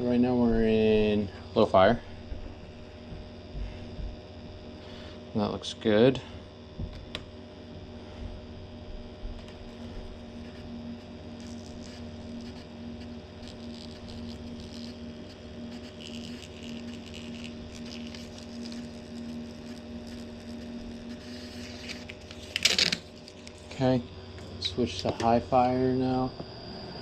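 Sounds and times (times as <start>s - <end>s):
gas boiler humming: 0.0s - 27.0s.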